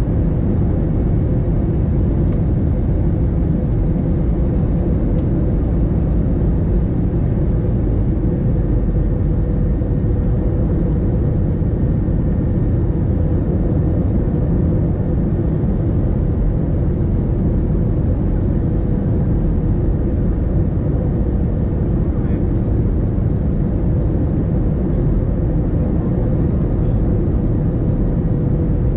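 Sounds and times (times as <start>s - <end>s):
aircraft cabin engine rumble: 0.0s - 28.9s.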